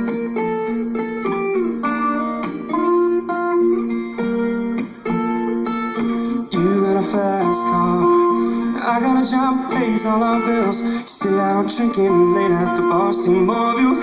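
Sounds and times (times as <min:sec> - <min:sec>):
plucked guitar riff: 0:00.0 - 0:14.0.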